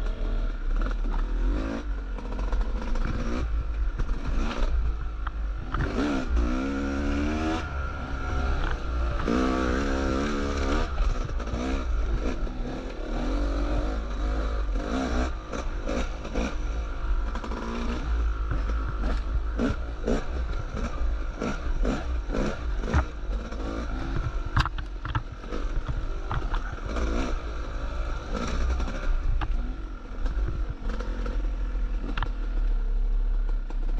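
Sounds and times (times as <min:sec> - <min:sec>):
dirt bike engine revving: 0:00.0 - 0:32.6.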